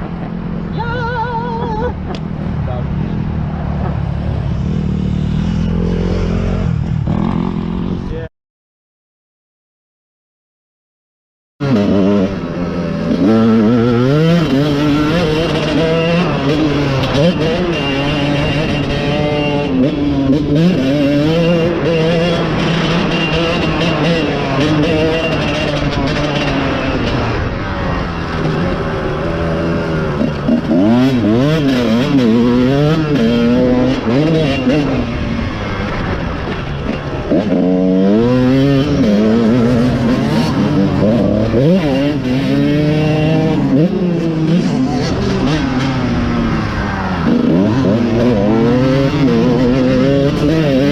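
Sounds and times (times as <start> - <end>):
dirt bike engine revving: 2.3 - 8.2, 11.6 - 50.9.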